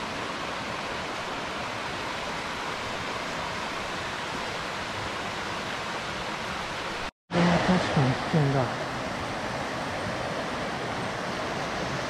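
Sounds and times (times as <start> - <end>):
stream cascading over rocks: 0.0 - 12.0.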